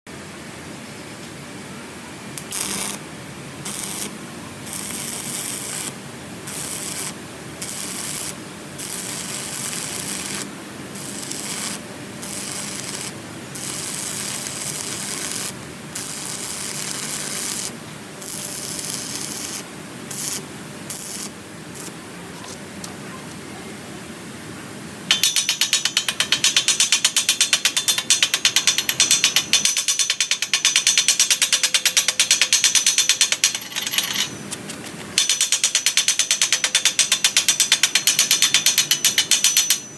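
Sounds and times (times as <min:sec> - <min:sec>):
arc welding crackling and hissing: 0:02.4 - 0:23.0, 0:25.1 - 0:39.9.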